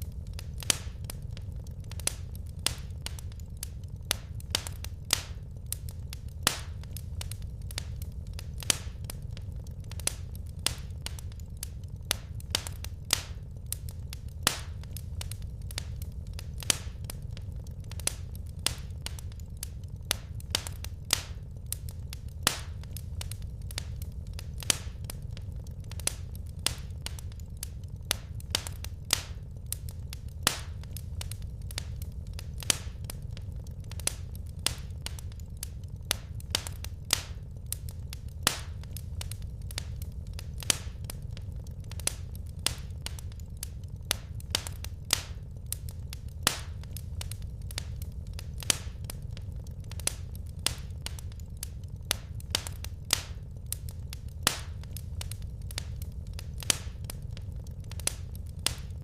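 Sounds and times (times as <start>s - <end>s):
firewood crackling in fireplace: 0.0s - 59.0s
low rumble of fire: 0.0s - 59.0s.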